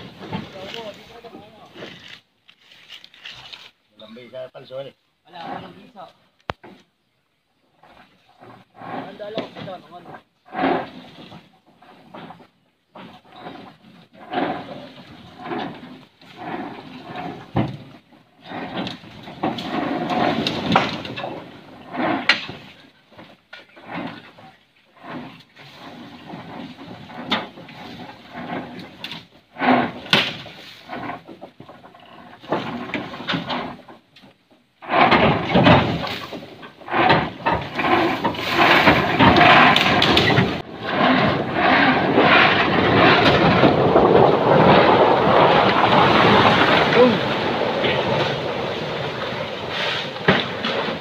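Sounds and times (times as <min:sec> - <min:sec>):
truck creaking and knocking: 0:00.0 - 0:02.4, 0:07.8 - 0:51.0.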